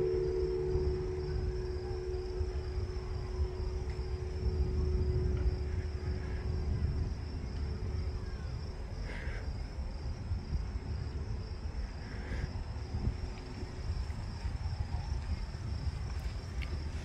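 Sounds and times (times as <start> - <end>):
distant jet aircraft rumble: 0.0 - 17.0.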